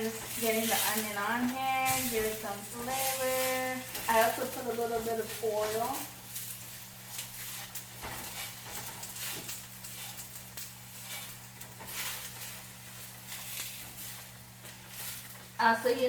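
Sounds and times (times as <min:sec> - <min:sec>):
onion sizzling in hot oil: 0:00.0 - 0:16.0
steady low hum: 0:00.0 - 0:16.0.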